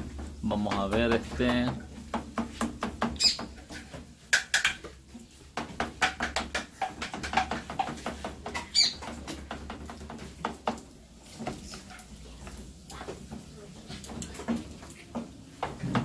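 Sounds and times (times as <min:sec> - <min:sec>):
wooden spoon scraping frying pan: 0:00.0 - 0:16.0.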